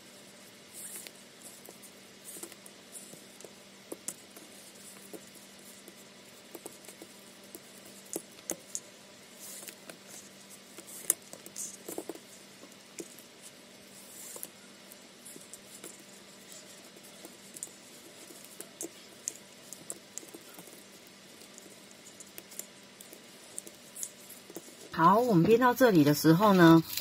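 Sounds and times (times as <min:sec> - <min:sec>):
faint steady hum: 0:00.0 - 0:27.0
cord rustling and ticking: 0:00.2 - 0:27.0.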